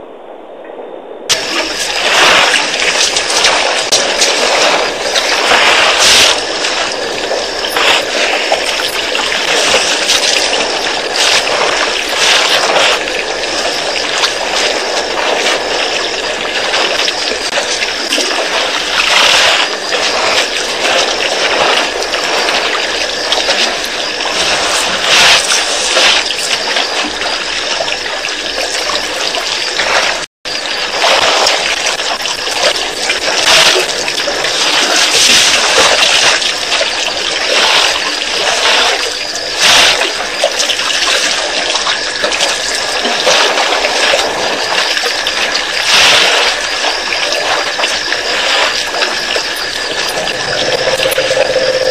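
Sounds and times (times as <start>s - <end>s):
elephants drinking water splashing: 1.3s - 51.9s.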